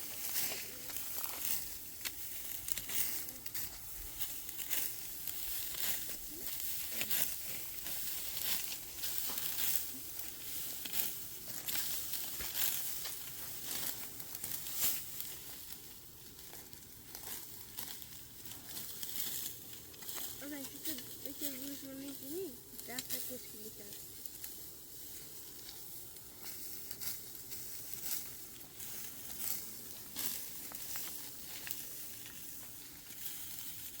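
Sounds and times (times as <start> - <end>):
dry crackling and rustling: 0.0 - 34.0.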